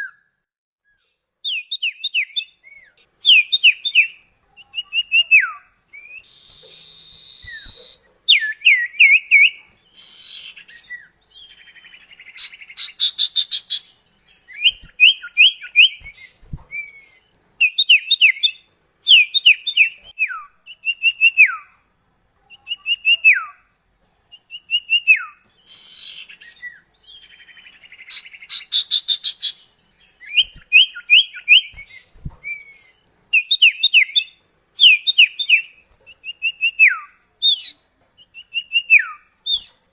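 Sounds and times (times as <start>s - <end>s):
bird whistles and chirps: 0.0s - 0.3s, 0.9s - 21.8s, 22.5s - 23.7s, 24.3s - 39.8s.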